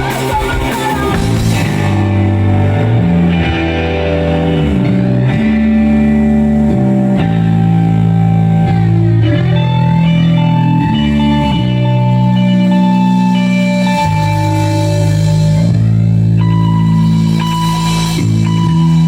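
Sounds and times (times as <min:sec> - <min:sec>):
high guitar note repeating: 0:00.0 - 0:19.0
rock band playing: 0:00.0 - 0:19.0.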